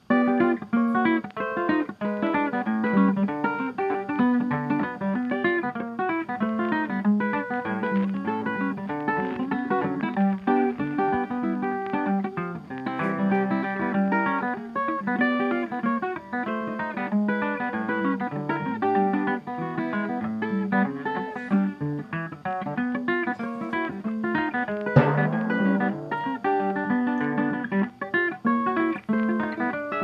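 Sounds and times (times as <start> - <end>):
plucked guitar music: 0.0 - 30.0.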